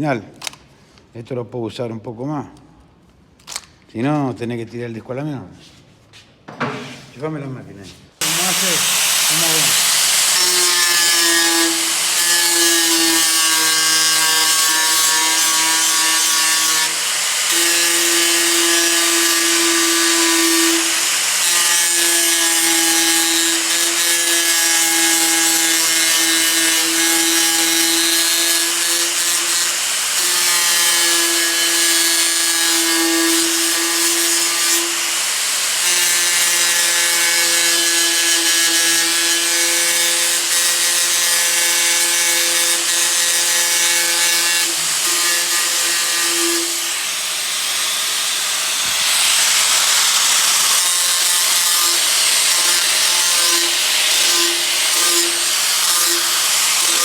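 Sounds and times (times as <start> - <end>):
angle grinder grinding metal: 8.2 - 57.0.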